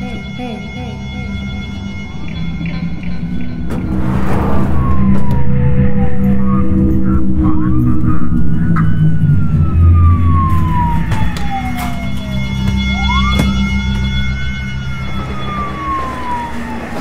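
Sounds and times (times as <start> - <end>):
emergency siren wailing: 0.0 - 17.0
steady low drone: 0.0 - 17.0.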